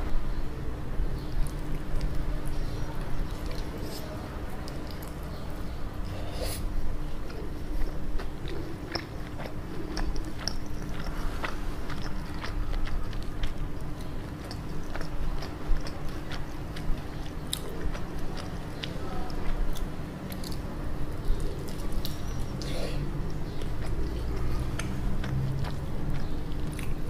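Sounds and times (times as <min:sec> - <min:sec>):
faint steady hum: 0:00.0 - 0:27.0
chewing and crunching: 0:01.2 - 0:27.0.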